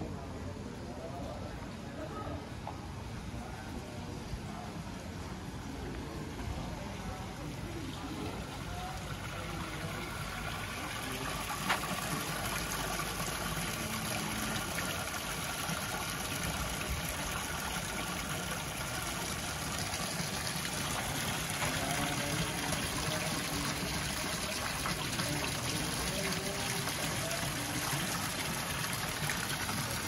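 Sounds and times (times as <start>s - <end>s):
street noise hiss: 0.0s - 30.0s.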